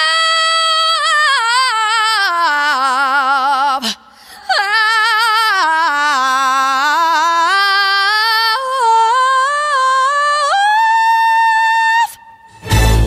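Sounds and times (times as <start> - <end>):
person singing unaccompanied: 0.0 - 13.0.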